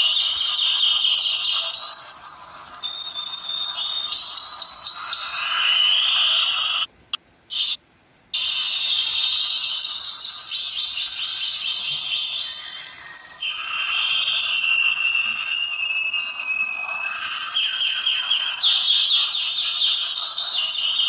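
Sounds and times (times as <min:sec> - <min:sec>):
finches chirping: 0:00.0 - 0:06.9, 0:07.5 - 0:07.8, 0:08.4 - 0:21.0.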